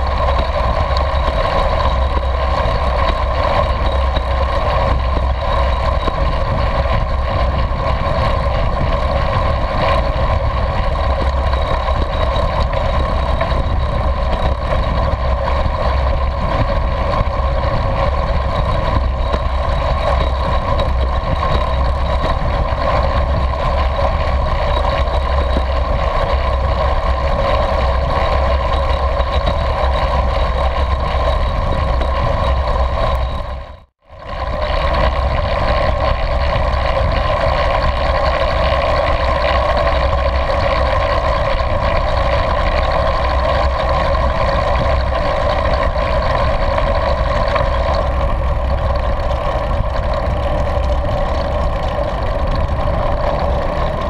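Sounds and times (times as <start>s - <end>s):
deep rumble: 0.0s - 54.0s
wind rushing on microphone: 0.0s - 54.0s.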